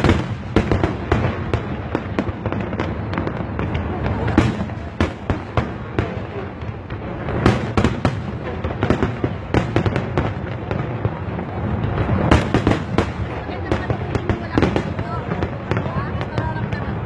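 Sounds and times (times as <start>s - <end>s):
continuous rumble: 0.0s - 17.0s
fireworks bangs and crackles: 0.0s - 17.0s.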